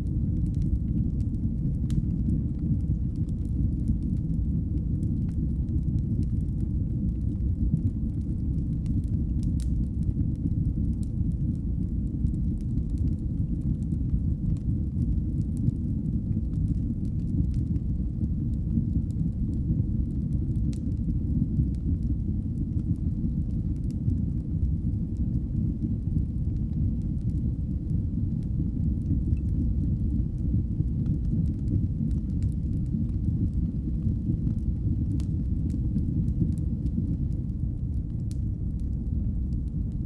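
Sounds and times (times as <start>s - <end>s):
fire burning in a fireplace: 0.0s - 40.0s.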